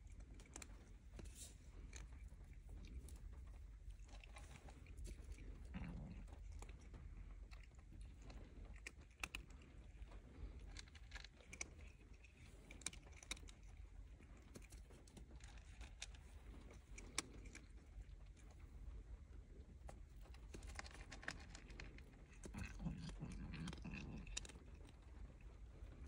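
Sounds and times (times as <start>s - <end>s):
small clicks and rustles: 0.0s - 26.0s.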